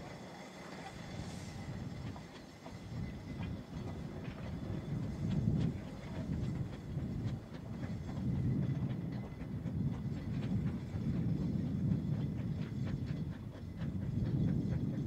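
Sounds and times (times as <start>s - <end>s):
steam locomotive exhaust rumbling: 0.0s - 15.0s.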